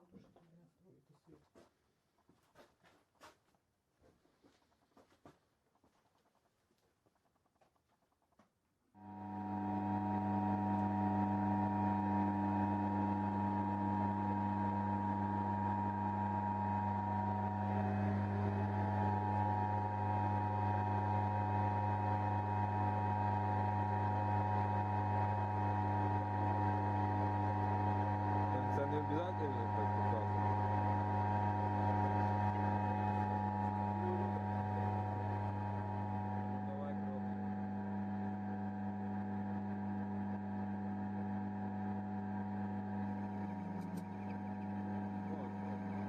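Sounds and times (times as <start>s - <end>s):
high motor whine: 9.0s - 46.0s
lathe electric motor humming: 9.0s - 46.0s.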